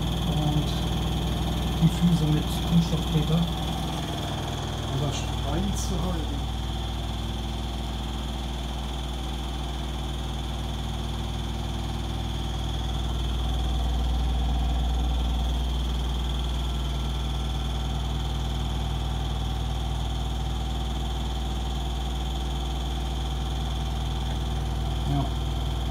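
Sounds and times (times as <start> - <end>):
washing machine spinning: 0.0 - 25.9.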